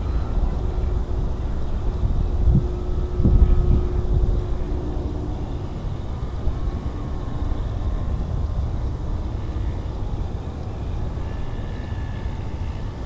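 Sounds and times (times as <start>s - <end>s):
distant model plane whine: 0.0s - 13.0s
wind buffeting microphone: 0.0s - 13.0s.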